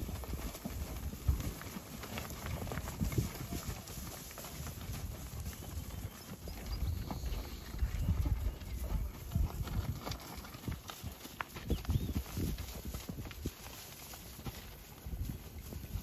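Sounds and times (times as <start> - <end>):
cattle hooves on dirt: 0.0 - 16.0.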